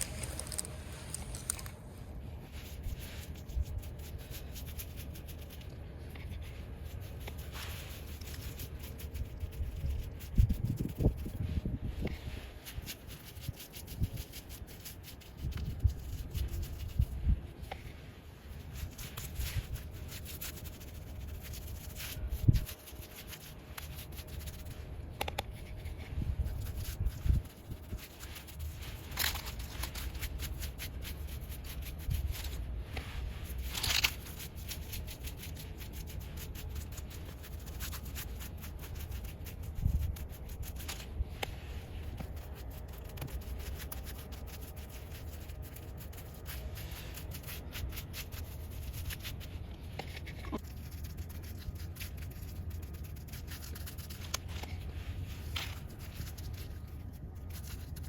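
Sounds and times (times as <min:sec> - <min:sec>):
paintbrush scraping on tree bark: 0:00.0 - 0:01.7, 0:02.4 - 0:58.0.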